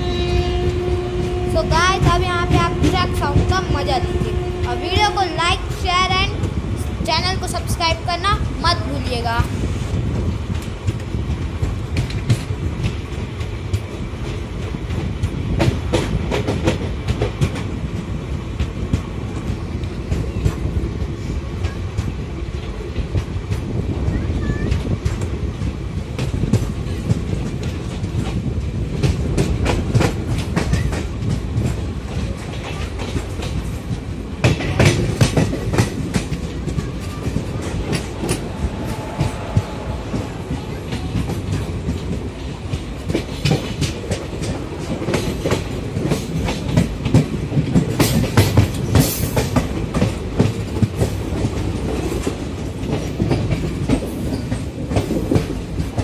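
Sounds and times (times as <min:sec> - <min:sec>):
train clattering over points: 0:00.0 - 0:56.0
train wheels clickety-clack: 0:00.0 - 0:56.0.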